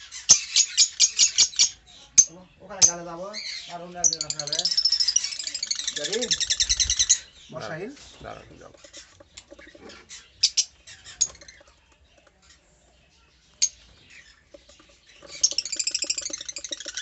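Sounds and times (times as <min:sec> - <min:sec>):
lovebirds chirping: 0:00.0 - 0:17.0.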